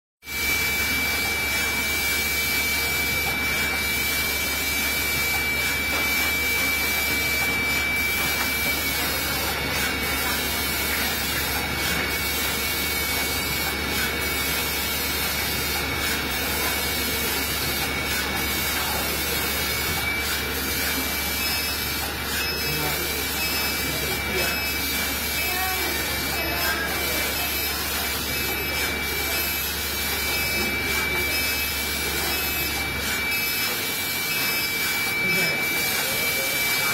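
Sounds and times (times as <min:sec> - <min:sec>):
factory machinery running: 0:00.3 - 0:36.9.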